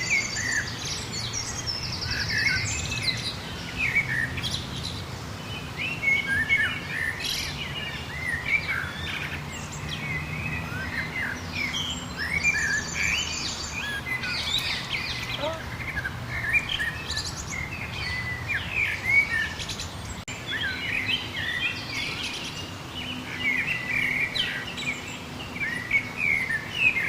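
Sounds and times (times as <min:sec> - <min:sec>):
birds singing and chirping: 0:00.0 - 0:27.0.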